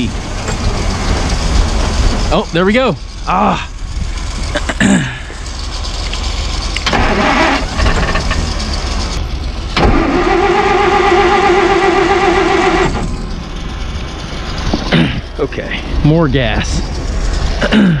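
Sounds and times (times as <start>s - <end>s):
car engine cranking and sputtering: 0.0s - 18.0s.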